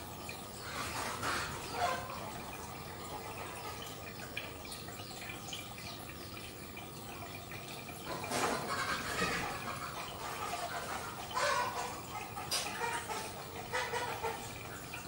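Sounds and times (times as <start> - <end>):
water drips and plops: 0.0 - 15.0
water trickling and splashing: 0.0 - 15.0.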